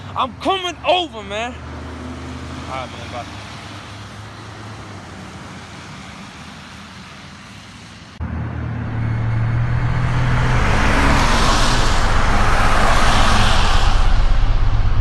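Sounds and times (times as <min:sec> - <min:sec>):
car passing on damp asphalt: 0:01.3 - 0:15.0.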